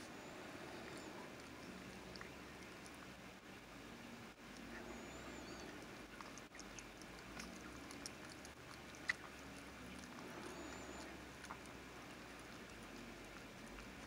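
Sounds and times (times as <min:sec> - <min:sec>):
dog licking and nibbling puppy: 0:00.0 - 0:14.0.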